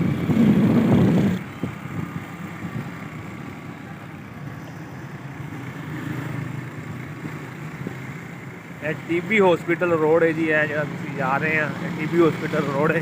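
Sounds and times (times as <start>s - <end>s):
street traffic: 0.0s - 13.0s
vehicle engine running: 0.0s - 13.0s.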